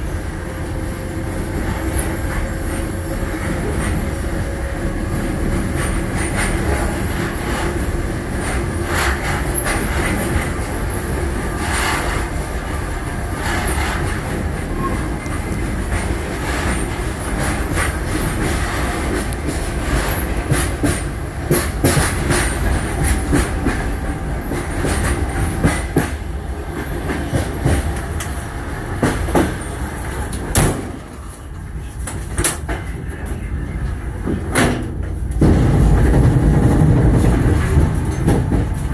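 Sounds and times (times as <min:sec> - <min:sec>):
train rumbling on rails: 0:00.0 - 0:38.9
wheels clacking over rail joints: 0:01.5 - 0:33.3, 0:34.1 - 0:38.9.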